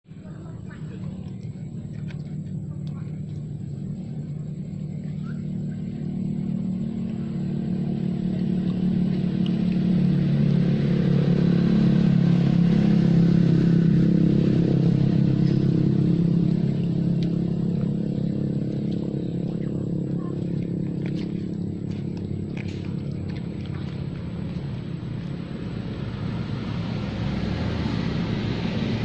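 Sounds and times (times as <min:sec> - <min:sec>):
vehicle engine passing by: 0:00.0 - 0:29.0.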